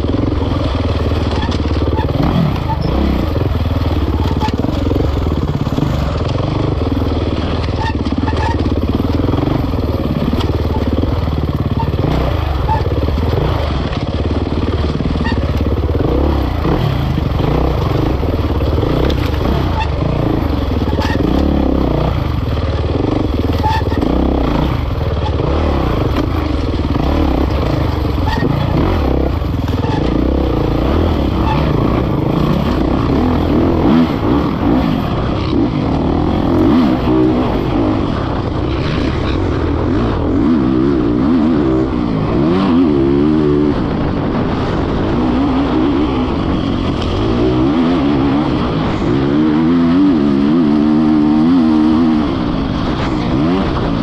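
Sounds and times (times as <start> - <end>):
dirt bike engine racing: 0.0 - 54.0.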